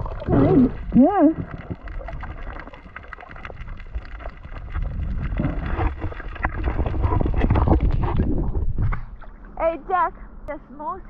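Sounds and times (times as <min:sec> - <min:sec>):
underwater rumble of moving water: 0:00.0 - 0:10.5.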